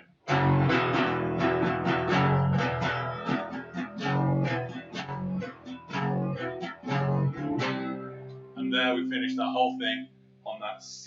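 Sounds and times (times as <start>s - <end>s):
guitar riff: 0.0s - 10.8s.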